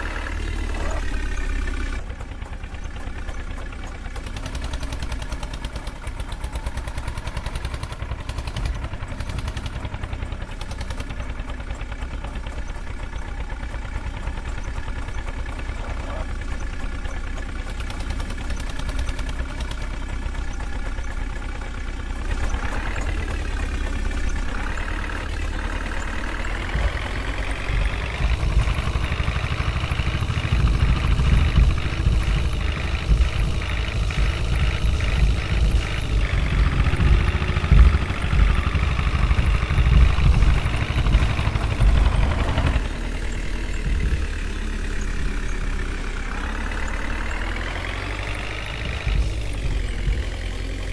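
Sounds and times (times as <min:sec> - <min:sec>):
heavy diesel engine revving: 0:00.0 - 0:50.9.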